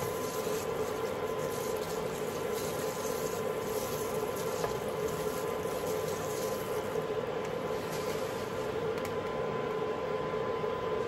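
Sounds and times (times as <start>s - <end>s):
pot of water heating hum: 0.0s - 11.0s.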